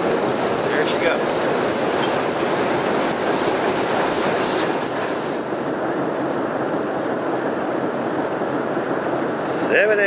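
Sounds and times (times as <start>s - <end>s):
moving train running noise: 0.0s - 10.0s.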